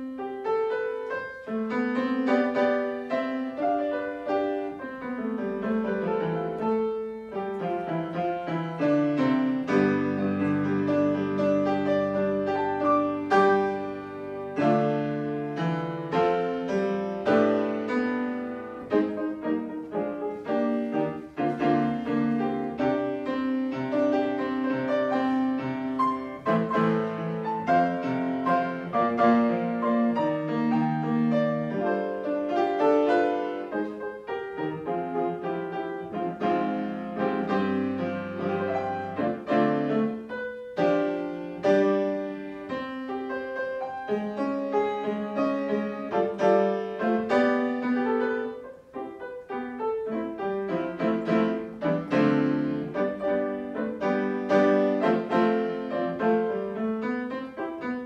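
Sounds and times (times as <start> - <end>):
solo piano piece: 0.0 - 58.0.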